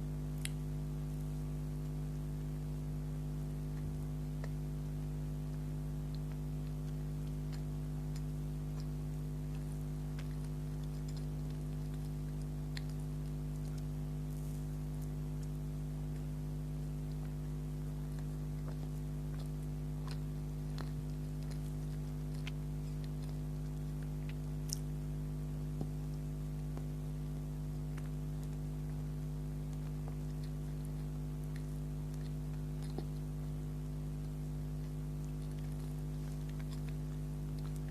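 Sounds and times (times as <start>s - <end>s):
chewing soft pastry: 0.0s - 37.9s
low electrical hum: 0.0s - 37.9s.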